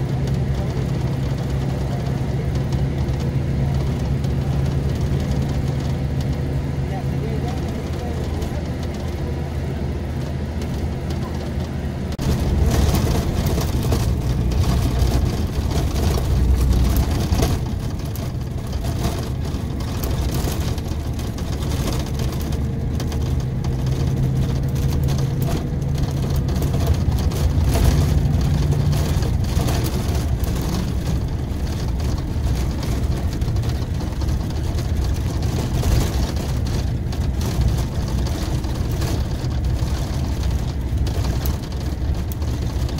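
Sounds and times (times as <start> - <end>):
diesel engine humming: 0.0 - 42.9.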